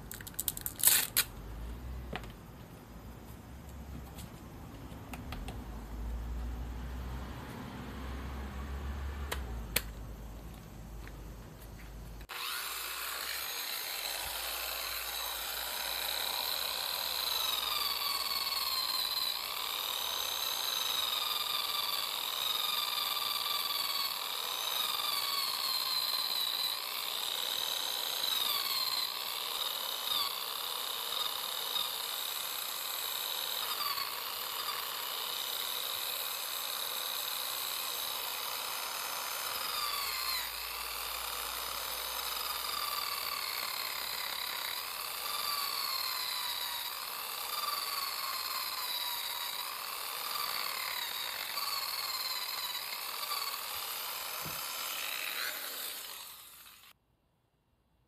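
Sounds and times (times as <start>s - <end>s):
electric drill motor whine: 5.3s - 57.0s.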